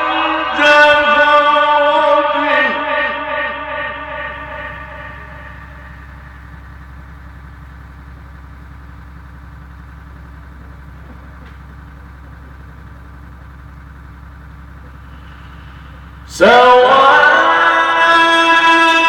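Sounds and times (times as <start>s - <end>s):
low electrical hum: 0.0s - 18.7s.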